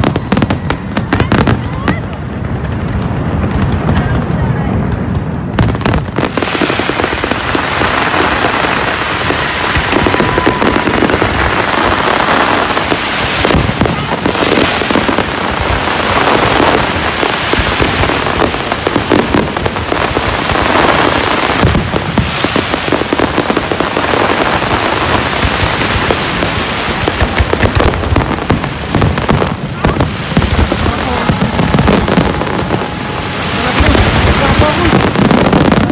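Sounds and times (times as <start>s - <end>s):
fireworks crackling and banging: 0.0s - 35.9s.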